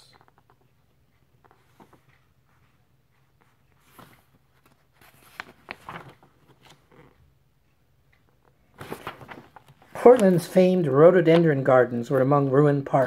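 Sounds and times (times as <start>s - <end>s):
book pages rustling and turning: 0.1s - 7.3s, 8.4s - 13.0s.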